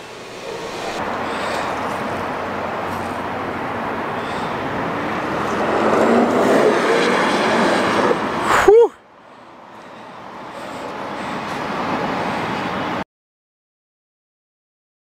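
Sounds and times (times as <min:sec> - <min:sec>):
cars driving past: 0:00.0 - 0:13.0.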